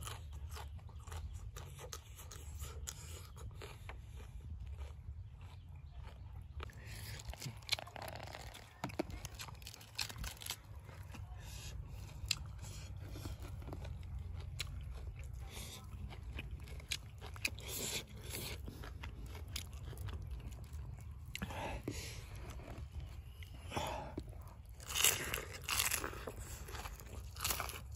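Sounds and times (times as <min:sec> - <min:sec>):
person chewing and crunching: 0:00.0 - 0:27.9.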